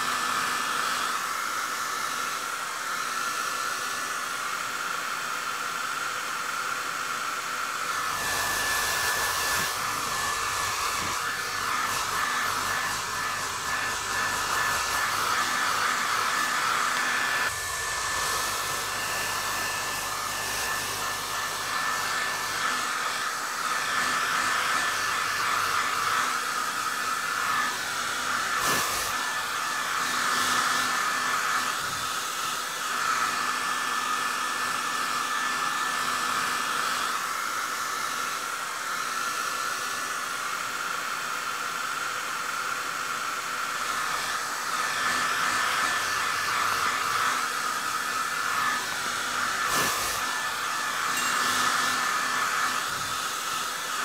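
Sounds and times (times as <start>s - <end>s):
hair dryer blowing: 0.0s - 54.0s.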